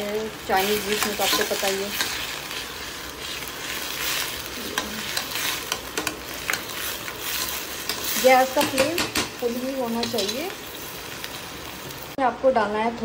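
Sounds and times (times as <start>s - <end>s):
vegetables sizzling in oil: 0.0s - 12.8s.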